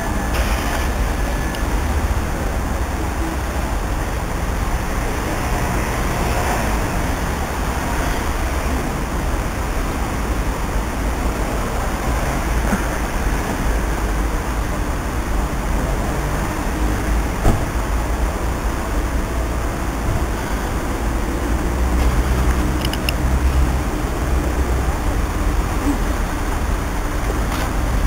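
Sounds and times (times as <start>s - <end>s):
distant trains: 0.0s - 28.0s
railway station hiss: 0.0s - 28.0s.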